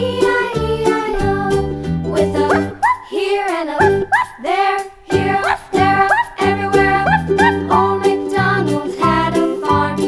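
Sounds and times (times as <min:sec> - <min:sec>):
upbeat children's music: 0:00.0 - 0:10.0.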